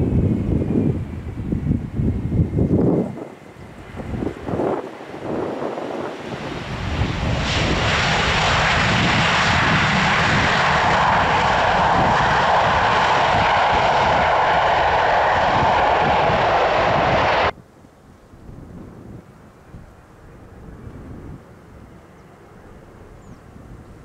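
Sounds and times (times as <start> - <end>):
airliner engines roaring: 0.0 - 17.6, 18.9 - 24.0
faint engine whine: 0.0 - 24.0.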